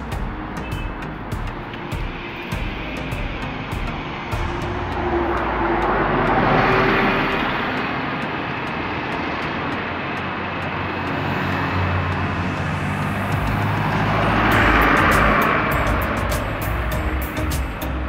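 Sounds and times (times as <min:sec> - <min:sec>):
engines and tyres running: 0:00.0 - 0:18.0
street traffic: 0:00.0 - 0:18.0.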